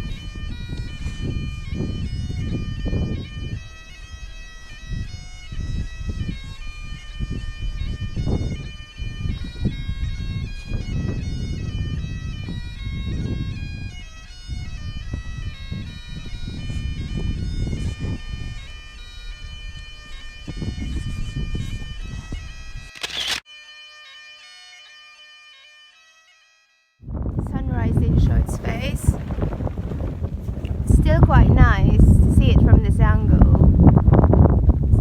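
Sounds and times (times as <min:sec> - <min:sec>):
wind buffeting microphone: 0:00.0 - 0:23.4, 0:27.0 - 0:35.0
bagpipe music: 0:00.0 - 0:30.0, 0:30.9 - 0:34.6.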